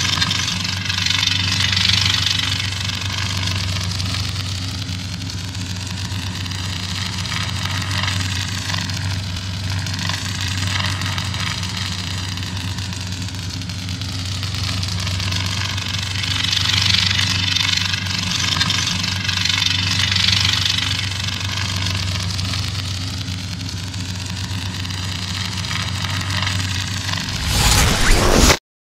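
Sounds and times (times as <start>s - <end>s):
lightsaber humming and crackling: 0.0s - 28.6s.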